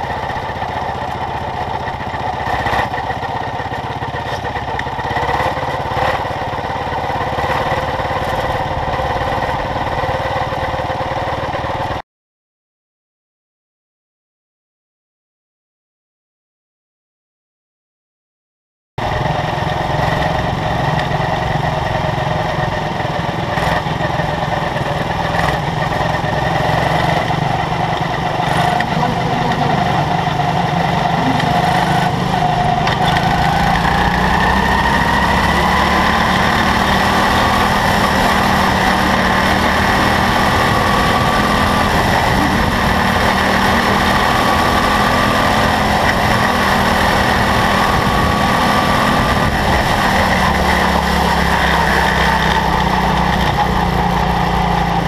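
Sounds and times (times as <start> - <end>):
small race car engine running: 0.0 - 12.0, 19.0 - 55.0.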